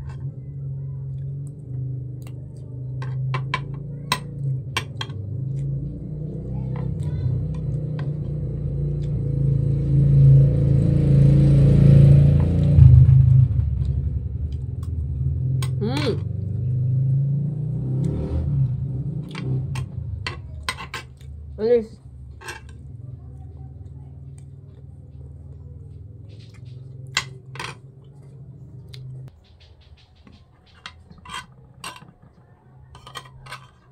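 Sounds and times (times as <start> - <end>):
vehicle engine rumbling past: 0.0 - 33.9.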